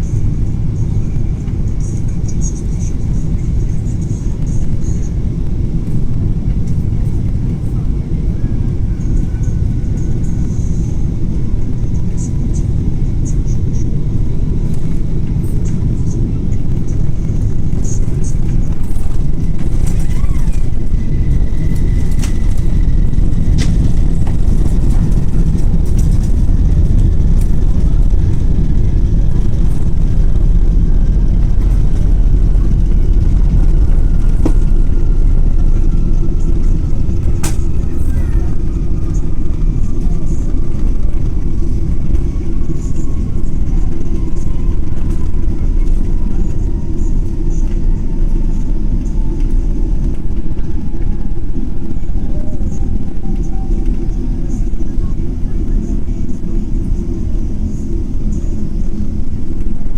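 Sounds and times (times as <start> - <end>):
aircraft cabin low rumble: 0.0 - 59.9
faint whine falling in pitch: 0.0 - 59.9.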